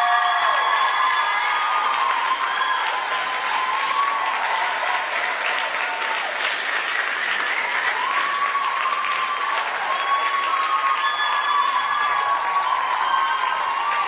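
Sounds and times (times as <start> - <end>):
audience applauding: 0.0 - 14.0
people cheering: 0.0 - 14.0.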